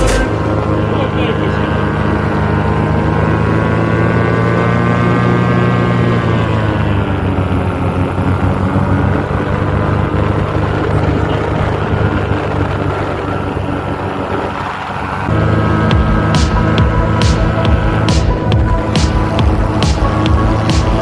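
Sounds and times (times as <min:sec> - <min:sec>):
paramotor engine and propeller: 0:00.0 - 0:21.0.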